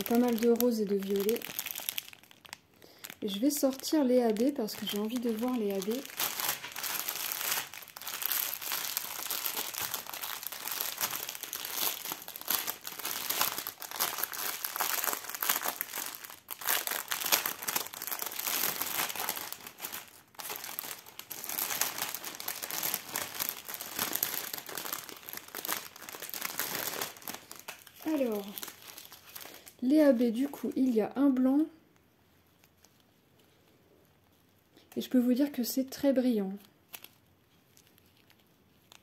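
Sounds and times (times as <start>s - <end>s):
plastic packaging crinkling: 0.0s - 31.6s, 32.5s - 33.2s, 36.6s - 39.0s.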